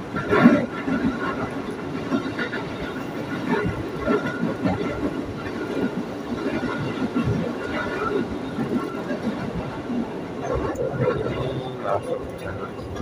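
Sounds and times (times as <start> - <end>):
electric train running: 0.0 - 13.0.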